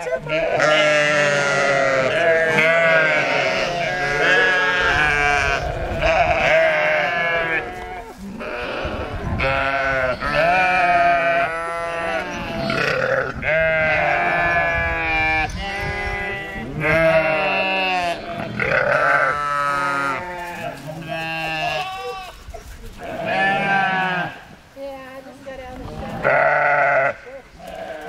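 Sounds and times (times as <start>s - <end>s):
sheep bleating: 0.0s - 22.4s, 23.0s - 24.4s, 26.0s - 28.0s.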